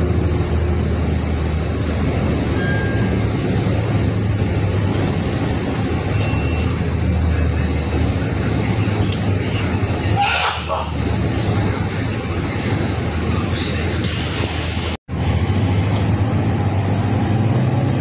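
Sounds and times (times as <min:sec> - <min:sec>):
bus engine hum: 0:00.0 - 0:18.0
road and tyre noise: 0:00.0 - 0:18.0.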